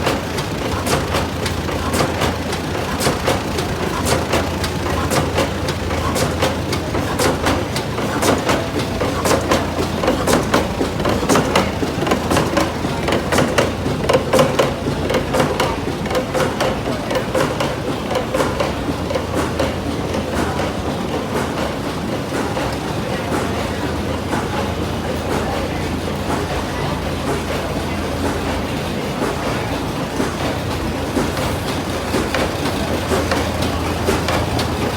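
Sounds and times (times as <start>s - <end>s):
old stationary engine running: 0.0s - 34.9s.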